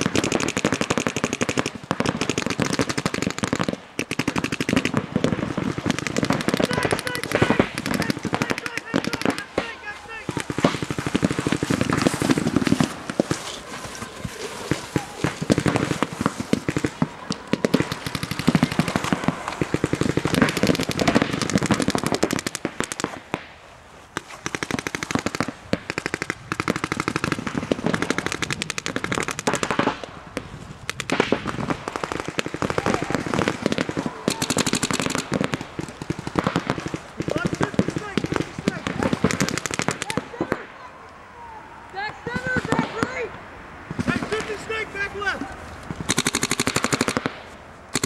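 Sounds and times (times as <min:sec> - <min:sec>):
paintball markers firing rapidly: 0:00.0 - 0:23.5, 0:24.2 - 0:30.1, 0:30.9 - 0:40.5, 0:45.9 - 0:48.0.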